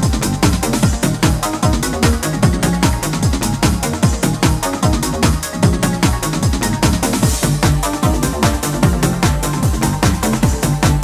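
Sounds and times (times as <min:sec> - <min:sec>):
deep kick drum: 0:00.0 - 0:11.0
electronic dance music: 0:00.0 - 0:11.0.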